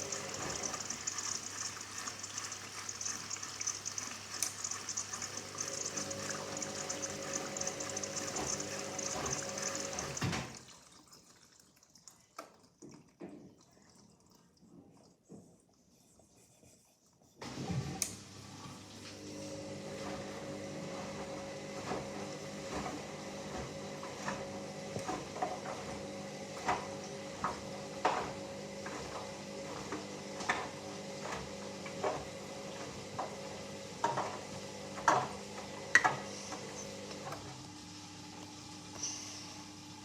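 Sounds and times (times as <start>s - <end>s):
washing machine motor humming: 0.0s - 10.8s, 17.4s - 40.0s
laundry and water sloshing: 0.0s - 15.0s, 18.4s - 38.9s.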